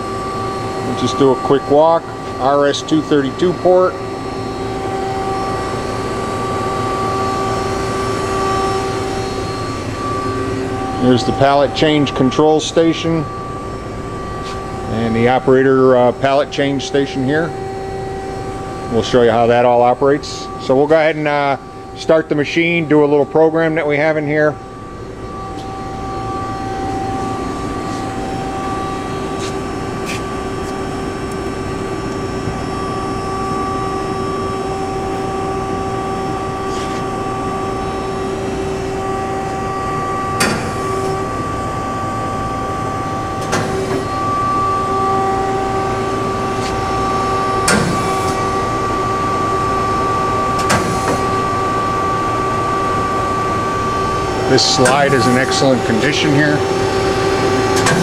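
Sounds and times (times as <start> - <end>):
machine mechanical hum: 0.0 - 58.0
machine whining tones: 0.0 - 58.0.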